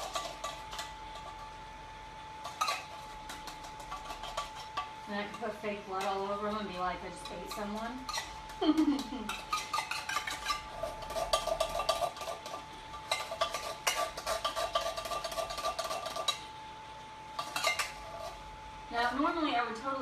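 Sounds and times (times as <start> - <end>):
spoon stirring in a bowl: 0.0 - 1.6, 2.4 - 16.5, 17.3 - 18.4.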